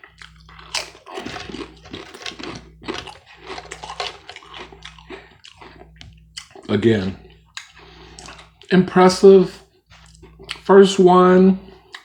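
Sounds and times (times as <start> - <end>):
person chewing food: 0.0 - 8.7, 9.7 - 10.7.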